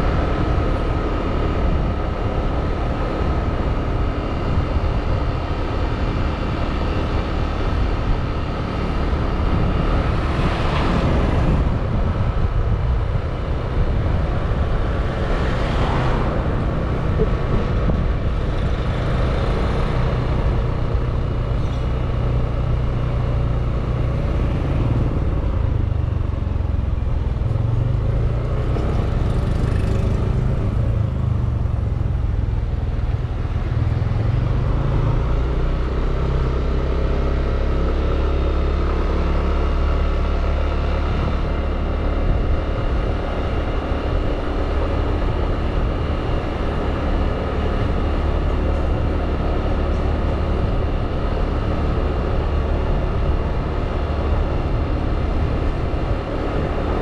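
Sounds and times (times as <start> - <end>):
scooter road noise rumble: 0.0 - 57.0
vehicles passing by: 0.0 - 57.0.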